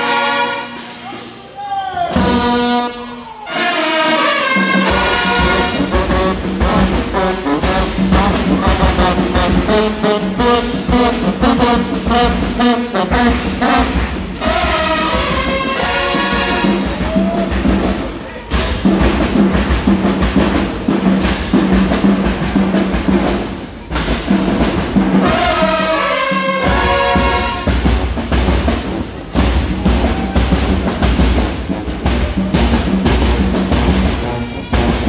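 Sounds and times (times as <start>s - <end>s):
marching band playing: 0.0s - 35.0s
steady drum strokes: 0.0s - 35.0s.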